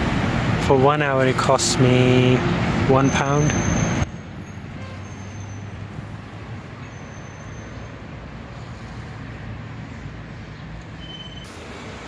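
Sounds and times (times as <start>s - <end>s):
road traffic hum and hiss: 0.0s - 12.0s.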